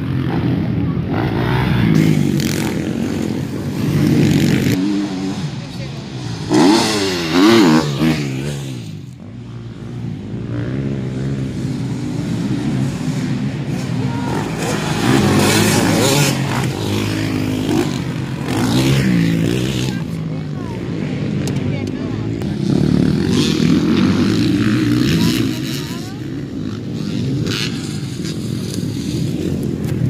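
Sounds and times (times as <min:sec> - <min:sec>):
motorcycles revving hard: 0:00.0 - 0:30.0.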